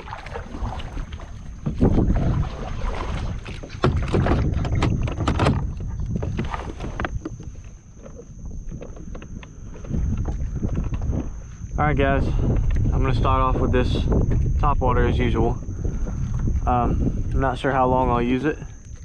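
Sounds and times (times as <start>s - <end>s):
water splashing against kayak hull: 0.0s - 19.0s
wind buffeting microphone: 0.0s - 19.0s.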